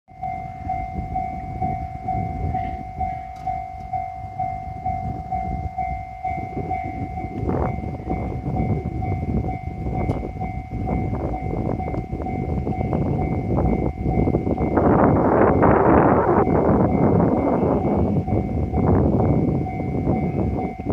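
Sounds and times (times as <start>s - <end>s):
level-crossing warning bell: 0.1s - 20.9s
low rumbling noise: 0.1s - 20.9s.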